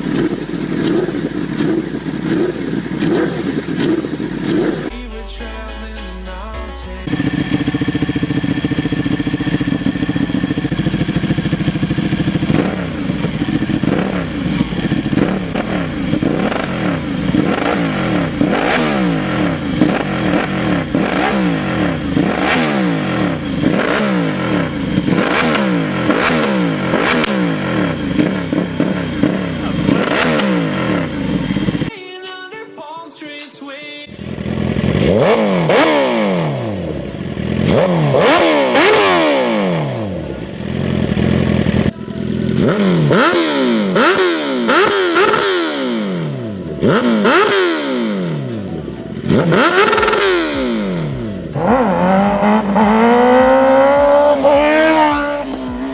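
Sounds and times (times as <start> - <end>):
motorcycle engine revving: 0.0 - 5.0, 7.0 - 31.9, 34.1 - 55.9.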